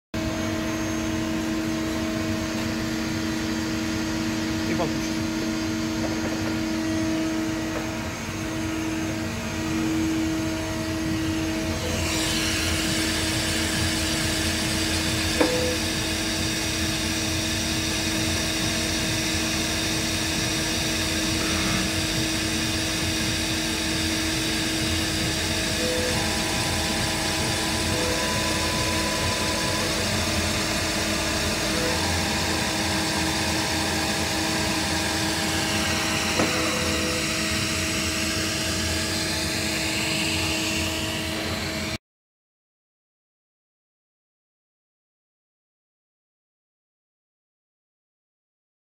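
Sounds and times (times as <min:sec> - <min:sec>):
machine humming: 0:00.2 - 0:42.0
high hissing whir: 0:00.5 - 0:42.0.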